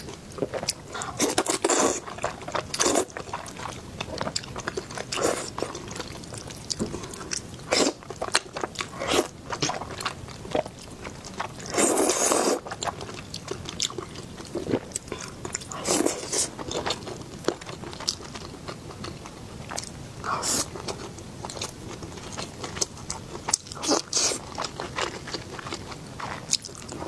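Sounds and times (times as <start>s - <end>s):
chewing crunchy food: 0.0s - 27.0s.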